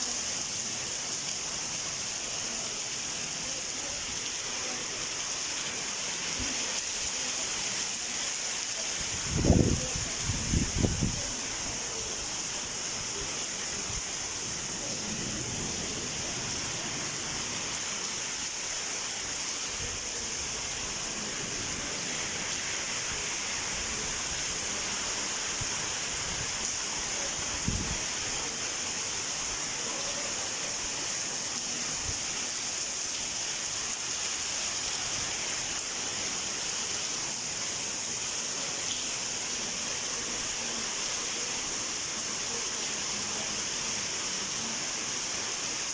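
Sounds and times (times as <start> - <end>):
heavy rain hissing: 0.0 - 45.9.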